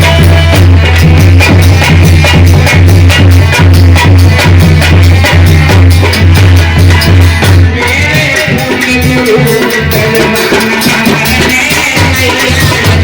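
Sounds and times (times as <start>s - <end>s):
instrumental melody line: 0.0s - 13.0s.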